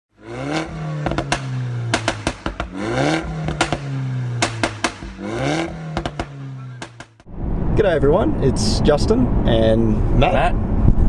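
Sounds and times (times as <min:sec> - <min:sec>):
car engine revving: 0:00.1 - 0:10.1
exhaust cracks: 0:00.2 - 0:09.1.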